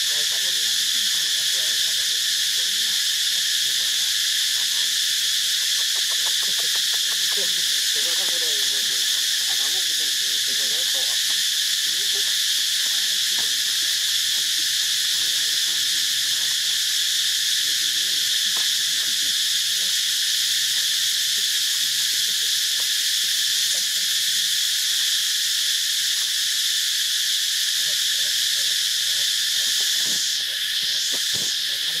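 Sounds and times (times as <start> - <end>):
forest insects chorus: 0.0 - 32.0.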